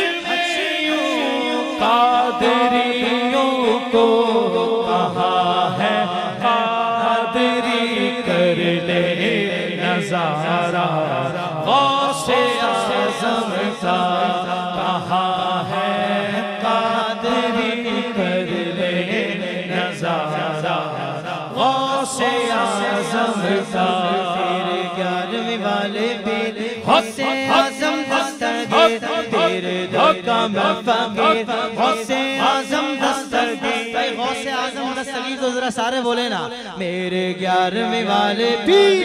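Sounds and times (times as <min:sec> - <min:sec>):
man singing through microphone: 0:00.0 - 0:39.0.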